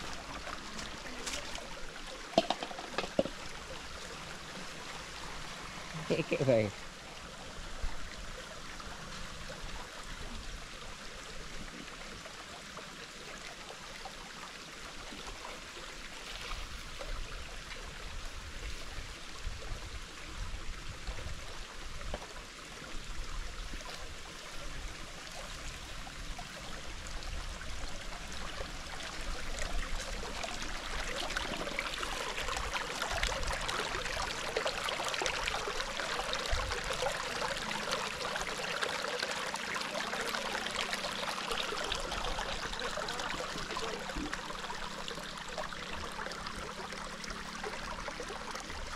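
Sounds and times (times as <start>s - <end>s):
stream babbling over stones: 0.0s - 48.9s.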